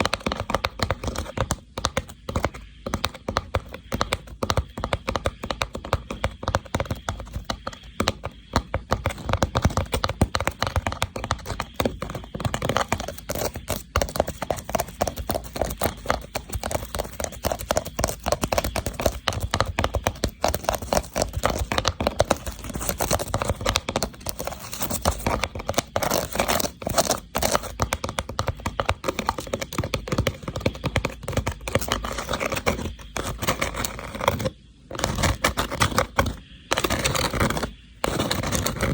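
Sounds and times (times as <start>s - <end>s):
rattan box tapped quickly: 0.0s - 38.9s.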